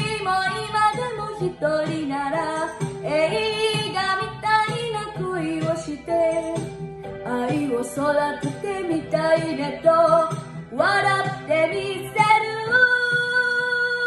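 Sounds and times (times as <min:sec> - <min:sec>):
girl singing: 0:00.0 - 0:06.6, 0:07.3 - 0:14.0
karaoke backing track: 0:00.0 - 0:14.0.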